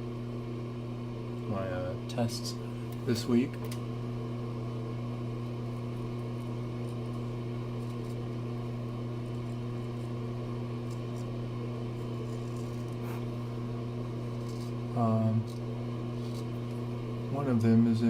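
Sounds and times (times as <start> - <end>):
low droning hum: 0.0 - 18.0.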